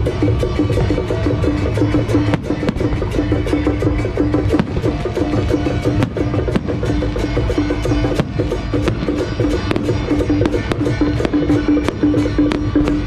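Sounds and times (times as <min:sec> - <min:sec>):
music with steady drum beat: 0:00.0 - 0:13.0.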